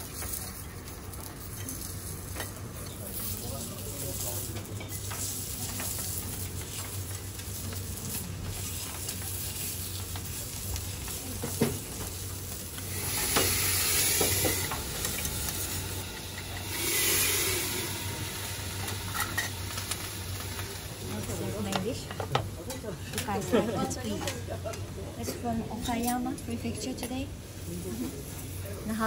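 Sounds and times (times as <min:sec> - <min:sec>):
food sizzling on a griddle: 0:00.0 - 0:24.6, 0:25.3 - 0:29.0.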